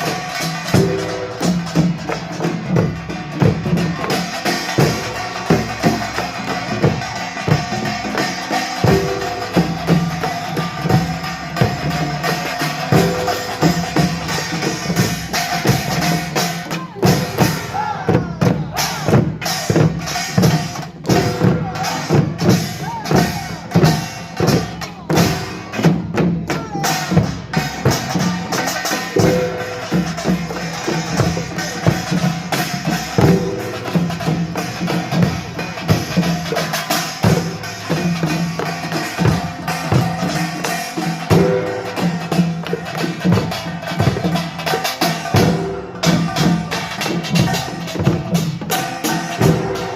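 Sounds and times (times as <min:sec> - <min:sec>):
gongs and drums playing fast: 0:00.0 - 0:49.9.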